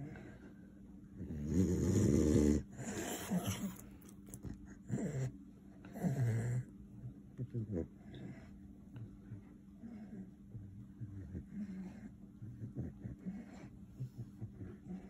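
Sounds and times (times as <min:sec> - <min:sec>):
dog throaty breathing and vocalising: 0:01.2 - 0:15.0.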